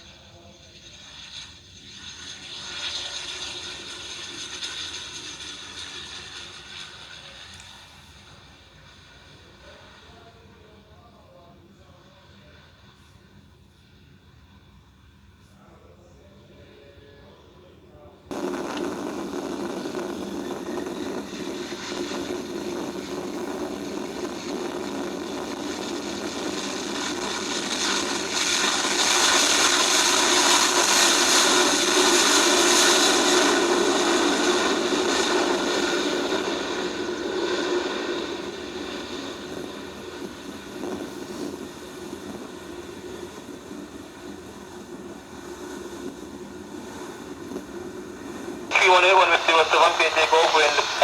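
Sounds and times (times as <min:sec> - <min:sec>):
jet airliner passing: 0:00.0 - 0:10.1, 0:18.3 - 0:51.0.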